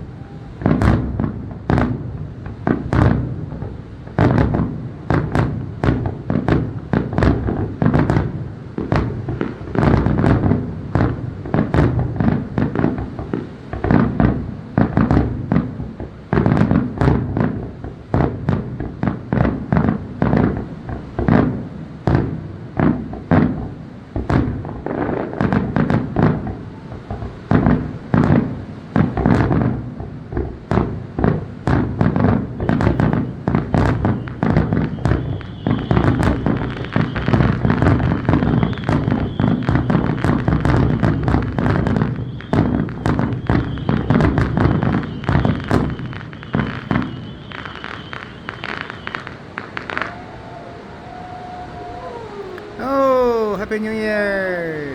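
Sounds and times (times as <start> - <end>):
fireworks booms and cracks: 0.6 - 54.9.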